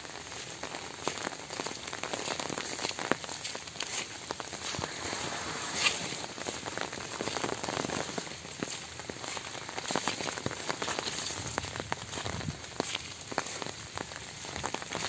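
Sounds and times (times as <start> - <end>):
light rain pattering on leaves: 0.0 - 15.0.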